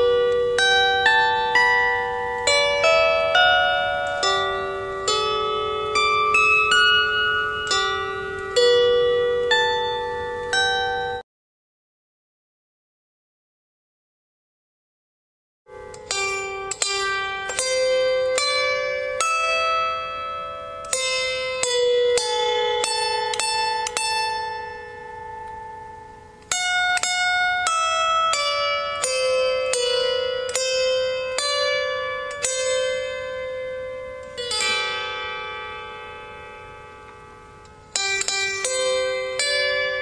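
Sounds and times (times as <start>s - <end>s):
solo harp melody: 0.0s - 11.2s, 15.7s - 40.0s.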